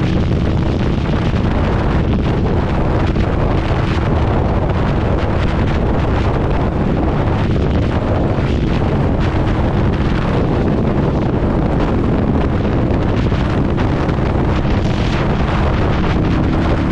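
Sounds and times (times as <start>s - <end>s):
motorcycle engine: 0.0s - 16.9s
wind buffeting microphone: 0.0s - 16.9s.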